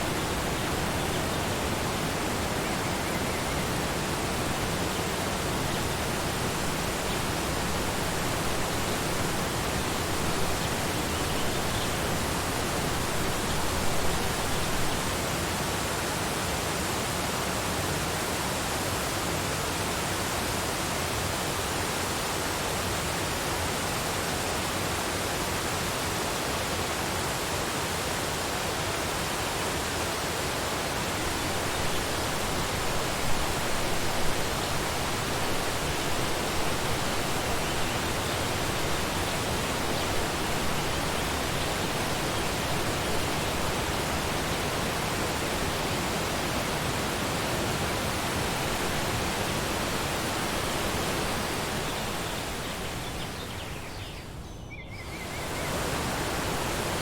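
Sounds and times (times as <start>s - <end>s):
waterfall rushing: 0.0s - 17.0s, 26.9s - 54.2s, 55.2s - 57.0s.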